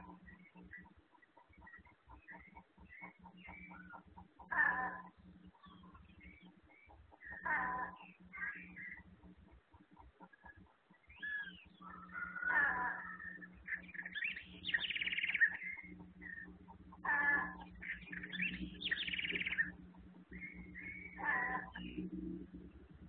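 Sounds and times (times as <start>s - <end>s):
bird calls: 0.0s - 23.0s
rapid rattling bird trill: 0.0s - 23.0s
steady low hum: 0.0s - 23.0s.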